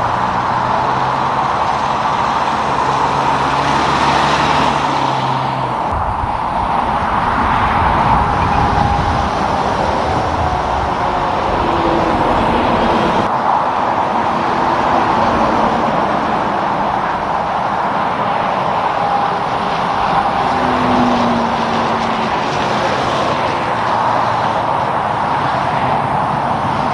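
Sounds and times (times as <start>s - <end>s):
road traffic passing: 0.0s - 26.9s.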